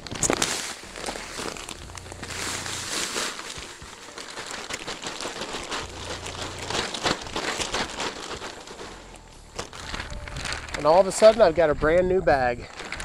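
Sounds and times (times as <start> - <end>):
bag crinkling and rustling: 0.0 - 13.0
sawdust pouring crackles: 0.0 - 13.0.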